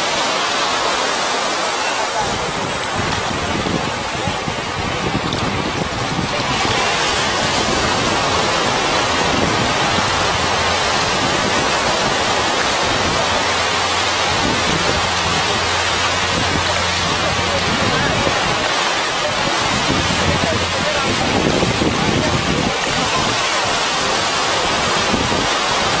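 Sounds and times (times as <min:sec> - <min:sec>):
breaking surf: 0:00.0 - 0:26.0
wind on microphone: 0:02.2 - 0:26.0.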